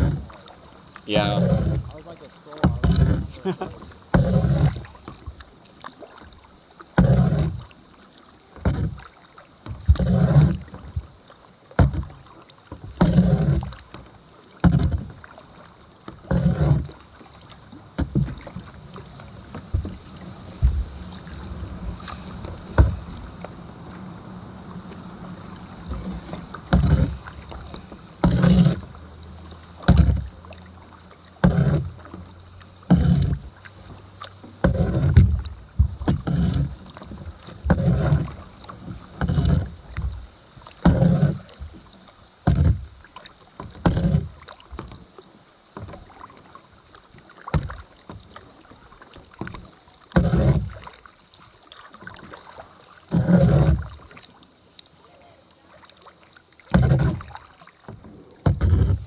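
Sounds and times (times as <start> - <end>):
paddle strokes splashing in water: 0.0 - 59.0.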